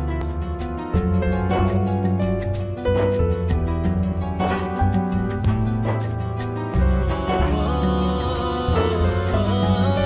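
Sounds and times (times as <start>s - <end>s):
sustained low bass: 0.0s - 10.0s.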